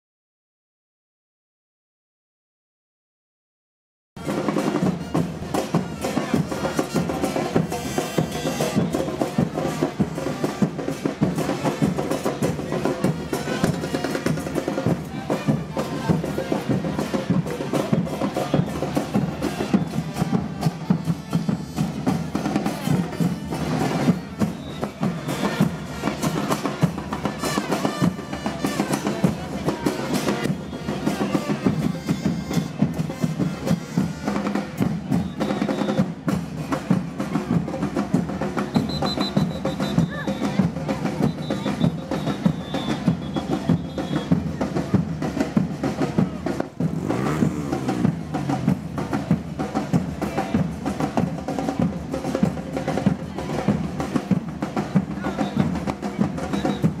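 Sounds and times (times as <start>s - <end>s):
percussion troupe drumming: 4.2s - 57.0s.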